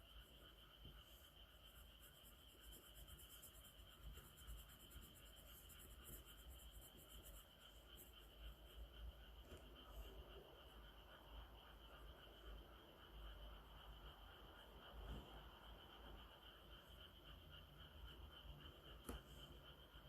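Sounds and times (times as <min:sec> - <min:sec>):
pencil scratching on paper: 0:00.0 - 0:20.0.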